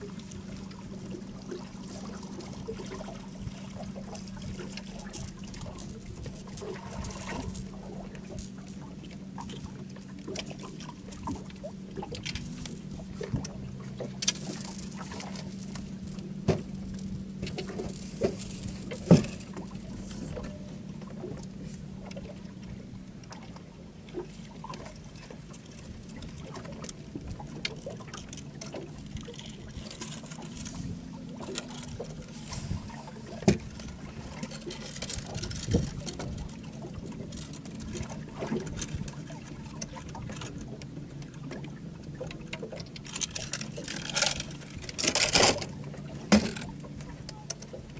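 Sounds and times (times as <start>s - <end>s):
steady low hum: 0.0s - 47.9s
waves lapping against boat hull: 0.0s - 47.9s.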